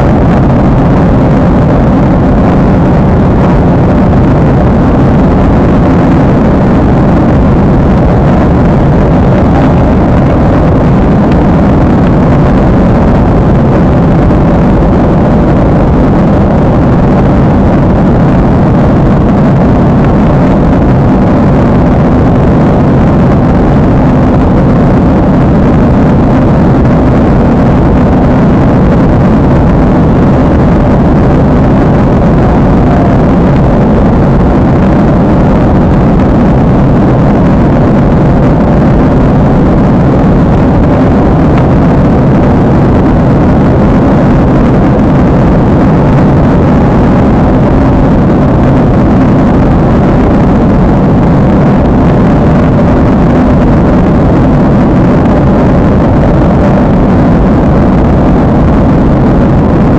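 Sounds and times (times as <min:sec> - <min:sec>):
jet airliner cabin noise: 0:00.0 - 0:59.9.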